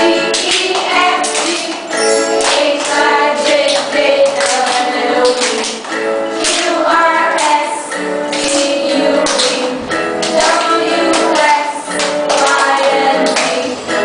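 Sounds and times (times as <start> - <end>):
children singing: 0.0 - 14.0
instrumental backing music: 0.0 - 14.0.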